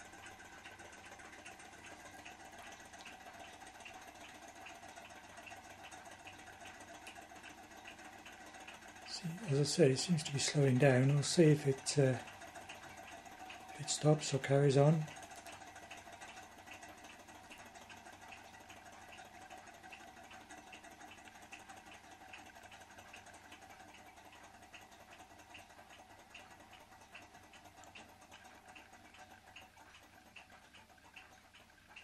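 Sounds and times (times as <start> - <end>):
faint steady hum: 0.0 - 32.0
small engine mechanism ticking: 0.0 - 32.0.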